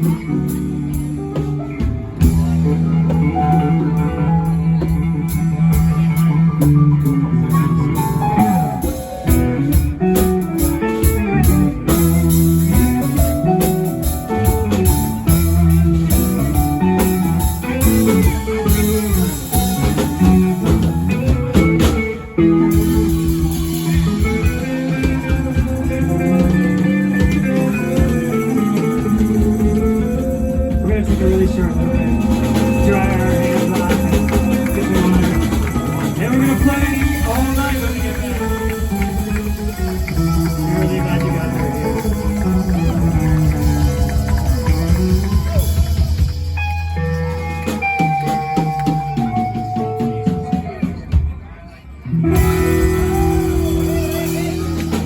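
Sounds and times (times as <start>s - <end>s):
bass: 0.0s - 55.0s
drums: 0.0s - 55.0s
electric guitar: 0.0s - 55.0s.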